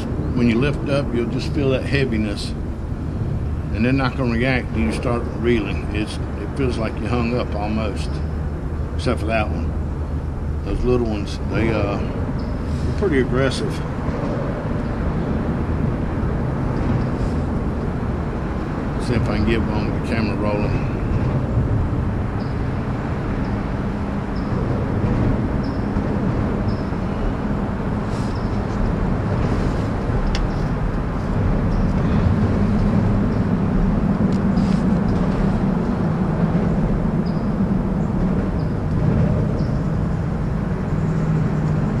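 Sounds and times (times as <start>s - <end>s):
low rumble of road traffic: 0.0s - 42.0s.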